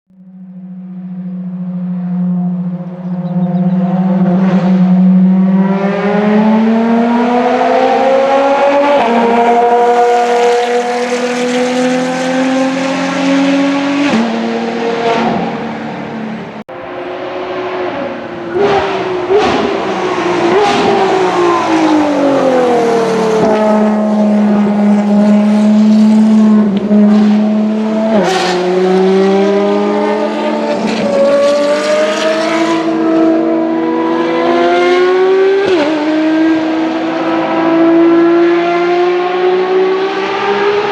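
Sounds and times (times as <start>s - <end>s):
racing car engine shifting gears: 0.5s - 40.9s.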